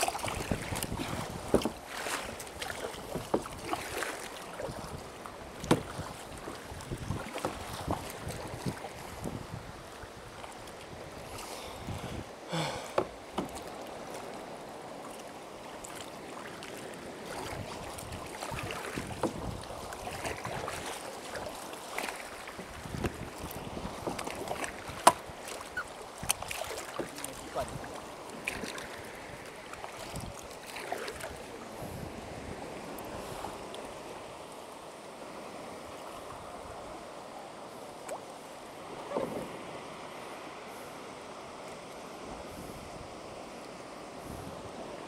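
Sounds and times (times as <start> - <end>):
paddles splashing in water: 0.0 - 45.0
water lapping at hull: 0.0 - 45.0.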